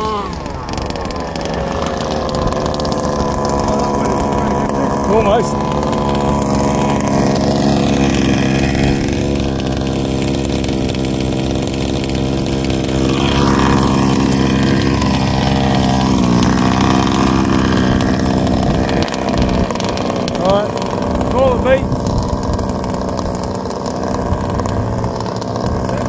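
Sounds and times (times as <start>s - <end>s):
small two-stroke engine running: 0.0s - 26.0s.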